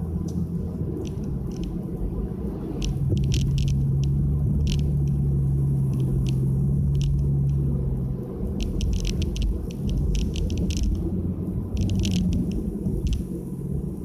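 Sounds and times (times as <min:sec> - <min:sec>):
car engine drone from cabin: 0:00.0 - 0:14.0.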